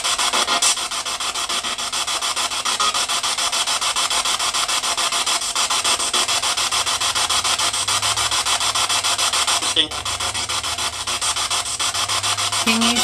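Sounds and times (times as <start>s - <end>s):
pulsing radio static: 0.0s - 13.0s.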